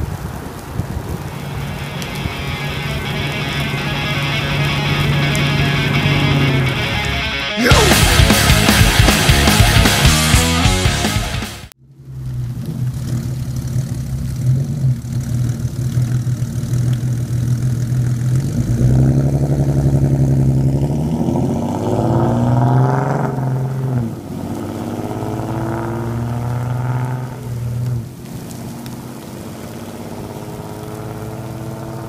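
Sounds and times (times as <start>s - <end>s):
car exhaust drone accelerating: 0.2s - 32.0s.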